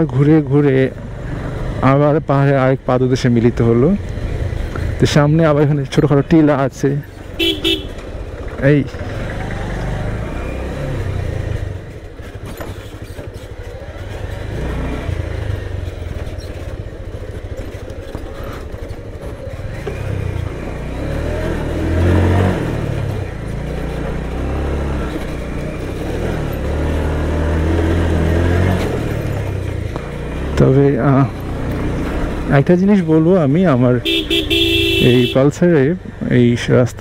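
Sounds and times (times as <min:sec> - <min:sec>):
motorcycle engine under load: 0:00.0 - 0:37.0.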